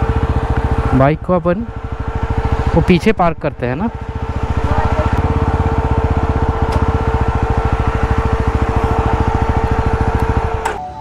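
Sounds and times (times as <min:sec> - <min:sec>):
motorcycle engine at low speed: 0:00.0 - 0:11.0.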